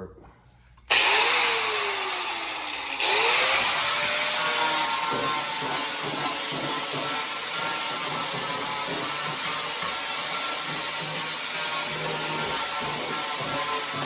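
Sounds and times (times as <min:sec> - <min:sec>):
angle grinder grinding metal: 0:00.9 - 0:14.0.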